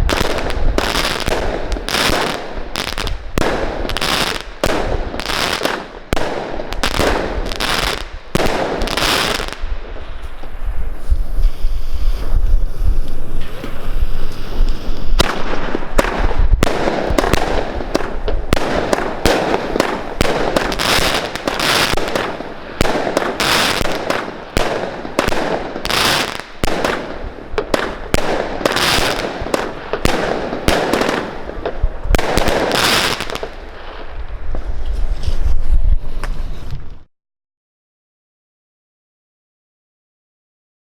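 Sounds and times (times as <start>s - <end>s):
wind rumble on microphone: 0.0s - 5.2s, 6.1s - 25.8s, 26.6s - 37.1s
fireworks bangs and crackle: 0.0s - 37.0s.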